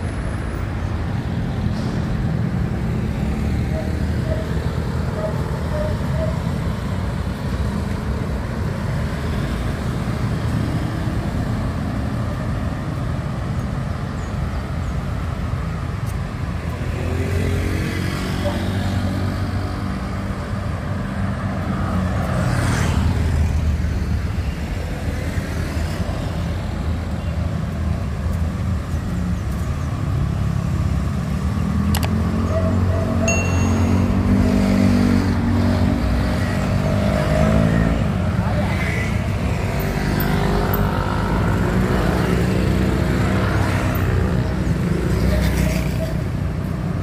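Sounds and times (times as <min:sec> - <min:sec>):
cars and motorbikes engine noise: 0:00.0 - 0:47.0.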